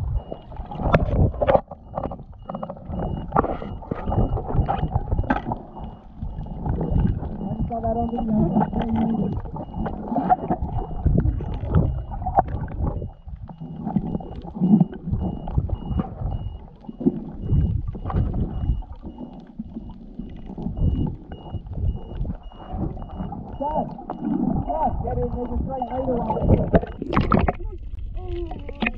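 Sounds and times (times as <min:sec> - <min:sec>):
underwater water sloshing: 0:00.0 - 0:28.9.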